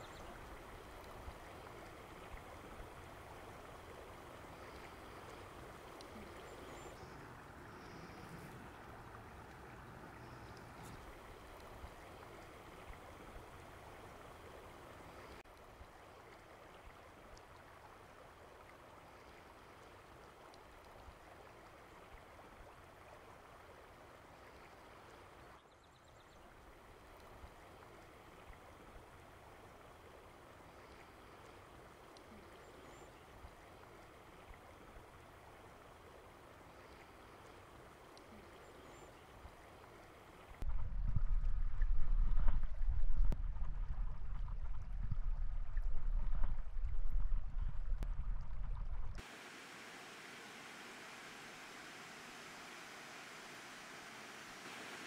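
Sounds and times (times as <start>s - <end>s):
stream water flowing: 0.0s - 40.6s, 48.2s - 55.0s.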